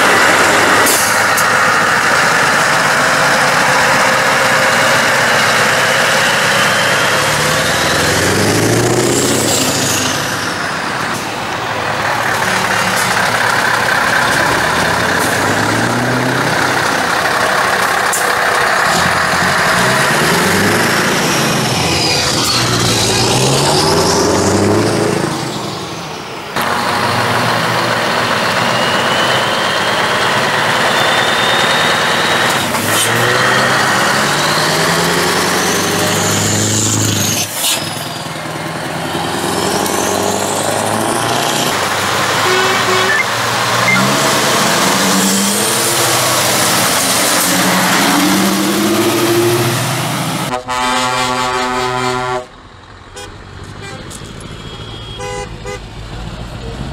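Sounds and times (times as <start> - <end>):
diesel truck engines revving: 0.0 - 56.9.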